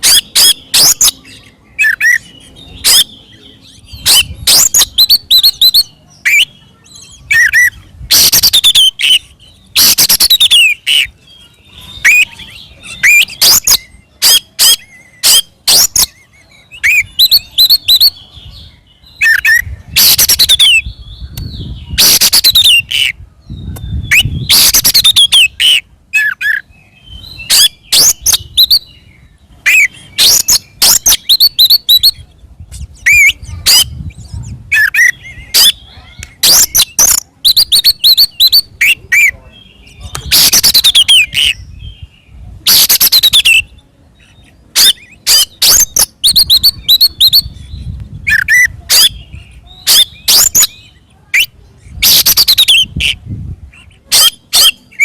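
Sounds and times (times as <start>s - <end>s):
songbird whistling and trilling: 0.0s - 55.0s.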